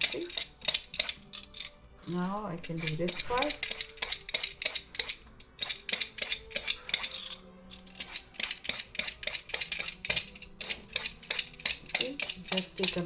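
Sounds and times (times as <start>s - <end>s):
peeler scraping squash skin: 0.0s - 13.0s.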